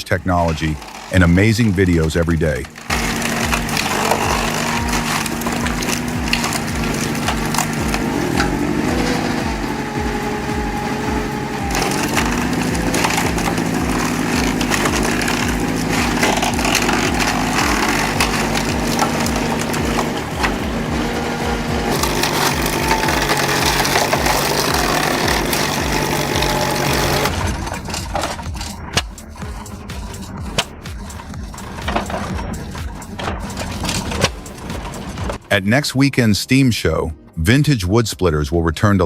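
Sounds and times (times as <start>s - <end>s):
wood creaking and cracking: 0.0s - 35.5s
log splitter engine pulsing: 0.0s - 36.6s.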